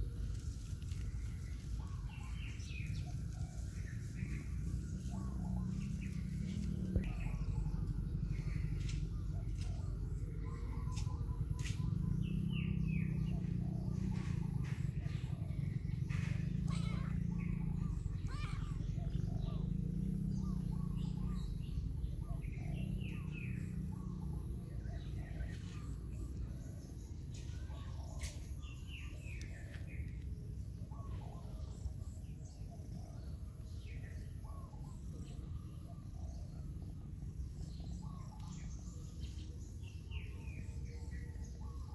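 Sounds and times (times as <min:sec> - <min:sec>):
small birds chirping: 0:00.0 - 0:41.9
steady low rumble: 0:00.0 - 0:41.9.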